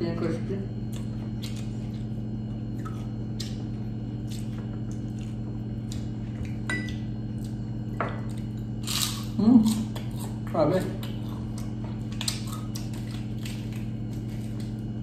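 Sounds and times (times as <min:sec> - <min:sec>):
steady low hum: 0:00.0 - 0:15.0
chewing crispy food: 0:00.8 - 0:15.0.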